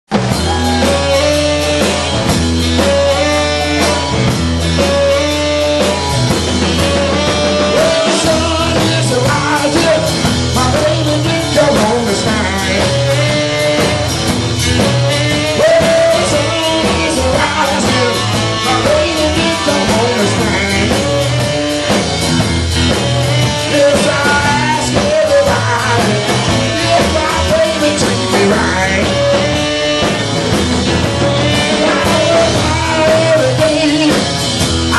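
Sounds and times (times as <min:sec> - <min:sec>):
electric guitar: 0:00.1 - 0:34.9
live rock band playing: 0:00.1 - 0:34.9
man singing: 0:00.4 - 0:02.0, 0:06.7 - 0:22.0, 0:22.9 - 0:34.9.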